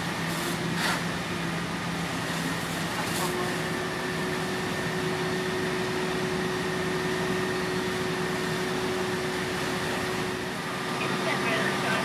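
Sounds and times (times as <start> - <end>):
fire engine pump humming: 0.0 - 12.0.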